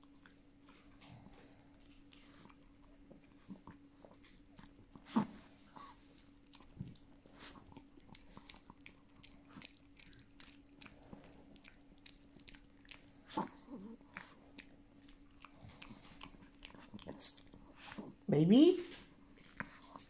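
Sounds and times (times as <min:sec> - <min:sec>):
dogs chewing and smacking: 0:00.0 - 0:20.0.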